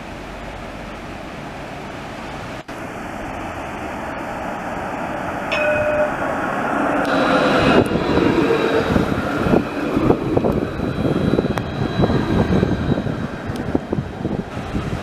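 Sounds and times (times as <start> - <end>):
wheels rumbling on rails: 0.0 - 15.0
tram motor whine: 2.8 - 15.0.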